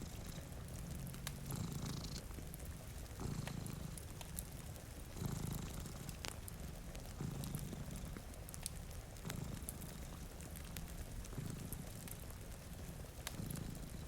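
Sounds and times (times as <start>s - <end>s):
cat purring: 0.0s - 14.0s
crackling wood fire: 0.0s - 14.0s
rain hiss: 0.0s - 14.0s.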